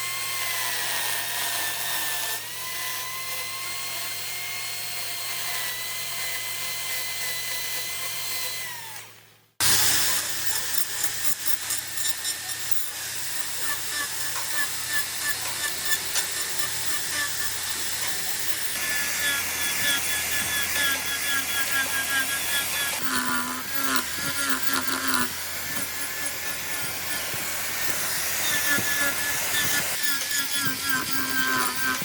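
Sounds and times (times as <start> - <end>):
power tool working wood: 0.0 - 32.0.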